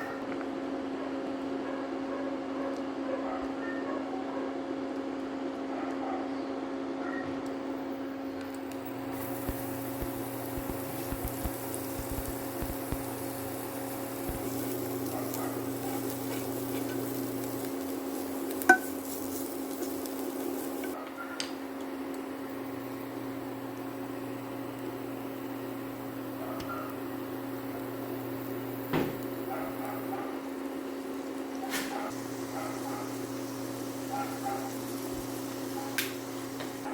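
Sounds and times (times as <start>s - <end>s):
appliance hum: 0.0s - 36.9s.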